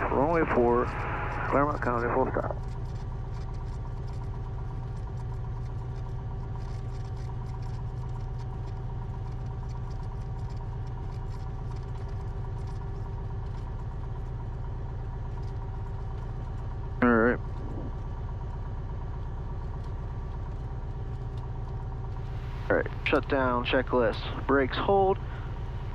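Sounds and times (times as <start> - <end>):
airplane engine idling: 0.0 - 25.9.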